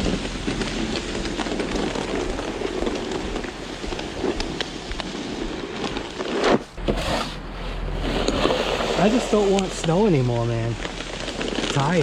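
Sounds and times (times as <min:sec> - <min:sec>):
snow brush sweeping snow: 0:00.0 - 0:12.0.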